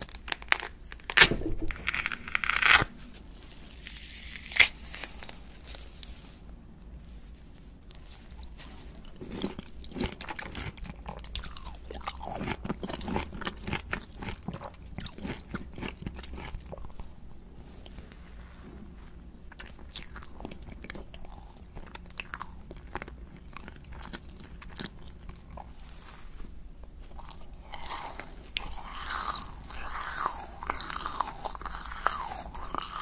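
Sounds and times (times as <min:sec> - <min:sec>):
crunching of sweet: 0:00.0 - 0:06.2, 0:07.5 - 0:18.2, 0:19.4 - 0:33.0.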